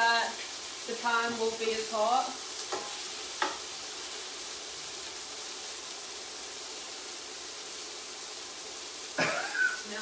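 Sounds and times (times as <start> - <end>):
chicken sizzling in frying pan: 0.0 - 10.0.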